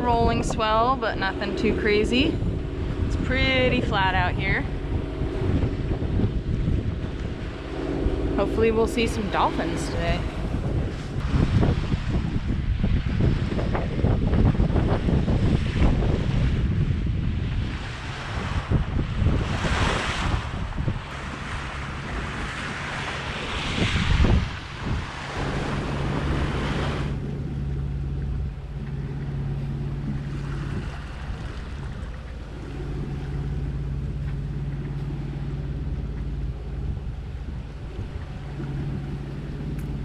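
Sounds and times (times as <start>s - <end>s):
boat engine droning: 0.0s - 40.0s
rushing sea water: 0.0s - 40.0s
water along hull: 0.0s - 40.0s
wind buffeting microphone: 0.0s - 40.0s.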